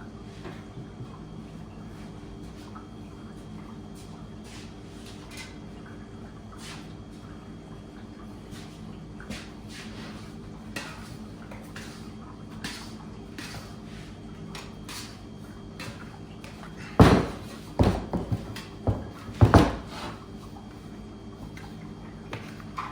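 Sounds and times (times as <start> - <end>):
low machine hum: 0.0 - 22.9.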